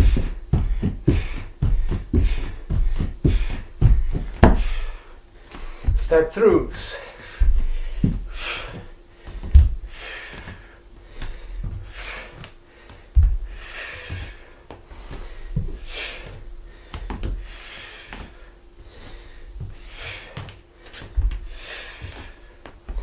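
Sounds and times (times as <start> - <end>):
bare feet thudding on wooden floor: 0.0 - 23.0
man breathing hard: 0.0 - 23.0.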